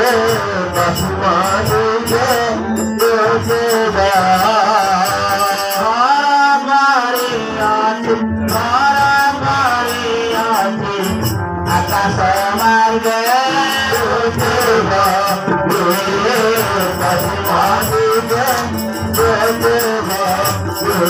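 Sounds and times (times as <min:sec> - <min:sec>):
musical accompaniment: 0:00.0 - 0:21.0.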